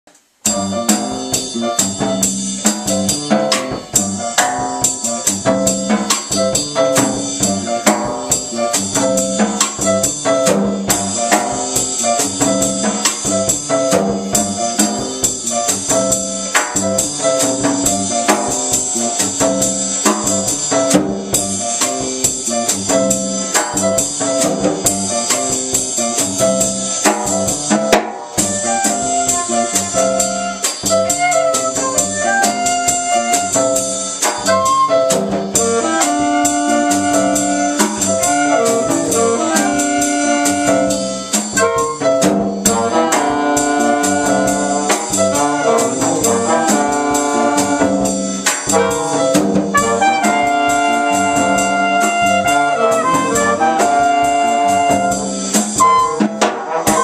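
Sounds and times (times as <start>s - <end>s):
drum kit: 0.1s - 57.0s
salsa band playing: 0.3s - 57.0s
electric bass: 0.4s - 57.0s.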